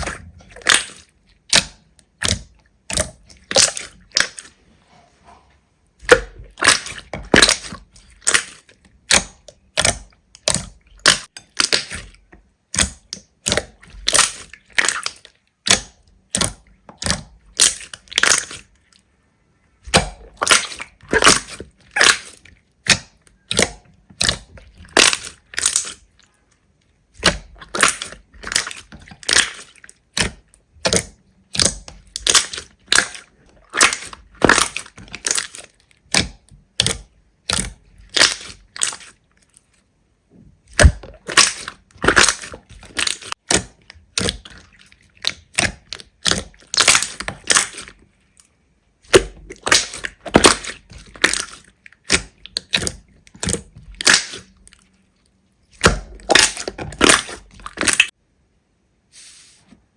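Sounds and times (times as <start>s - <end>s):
slime squeezed crackling: 0.0s - 4.6s, 6.0s - 19.0s, 19.8s - 26.4s, 27.0s - 39.8s, 40.6s - 58.2s.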